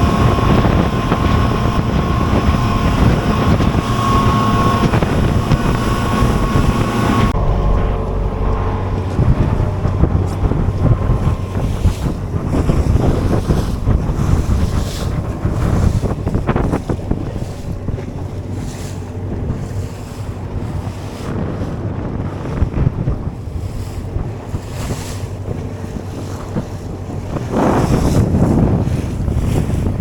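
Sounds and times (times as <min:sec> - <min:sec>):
waves washing: 0:00.0 - 0:30.0
wind buffeting microphone: 0:00.0 - 0:30.0.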